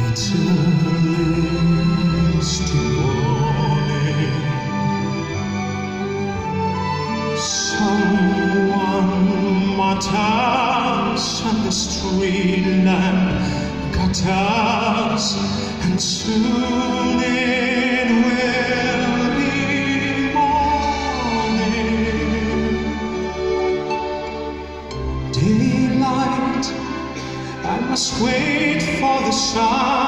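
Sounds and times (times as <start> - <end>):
man singing with vibrato: 0.0 - 5.7, 7.0 - 23.6, 25.2 - 30.0
orchestra playing: 0.0 - 30.0.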